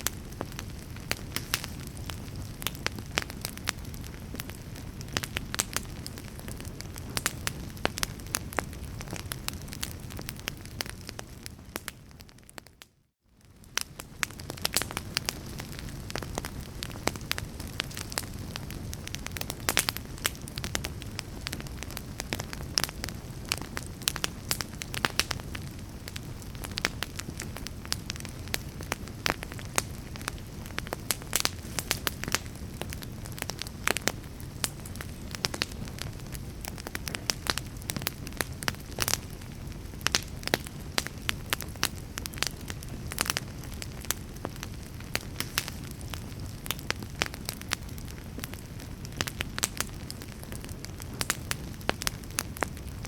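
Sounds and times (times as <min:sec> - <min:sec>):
fire hiss and rumble: 0:00.0 - 0:12.3, 0:13.4 - 0:53.0
fire pops and snaps: 0:00.0 - 0:12.8, 0:13.4 - 0:53.0.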